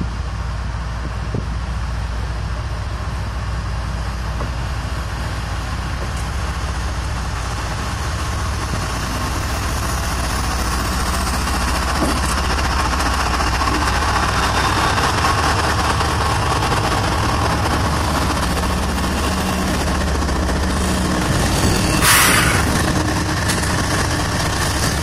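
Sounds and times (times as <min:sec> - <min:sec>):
diesel locomotive engine hum: 0:00.0 - 0:25.0.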